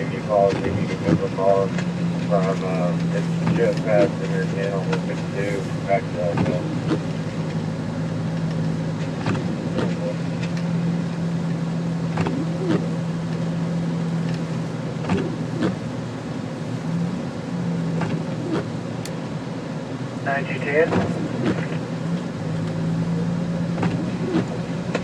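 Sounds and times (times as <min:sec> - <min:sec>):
low engine hum: 0:00.0 - 0:25.0
road and wind noise: 0:00.0 - 0:25.0.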